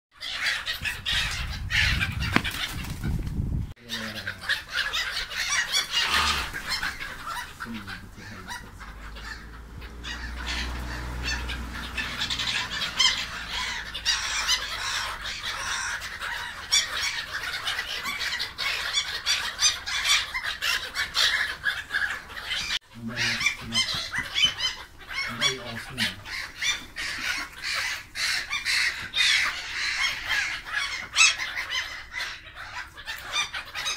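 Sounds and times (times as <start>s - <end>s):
gulls calling: 0.2s - 3.2s, 3.8s - 33.9s.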